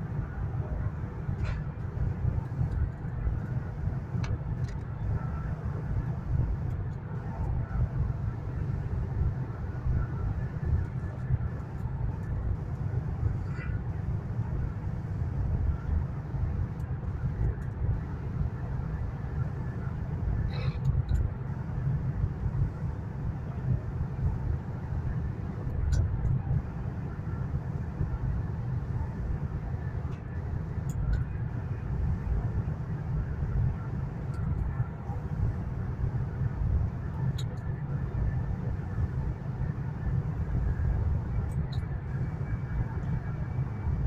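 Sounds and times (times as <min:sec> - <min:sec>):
train carriage low rumble: 0:00.0 - 0:44.0.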